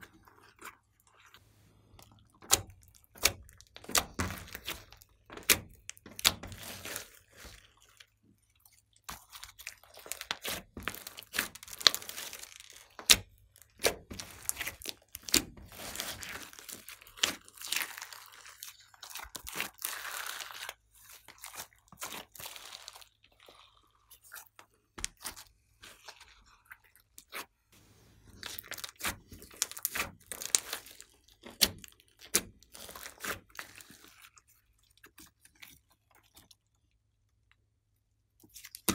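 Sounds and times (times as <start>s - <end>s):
slime squishing: 0.0s - 37.5s.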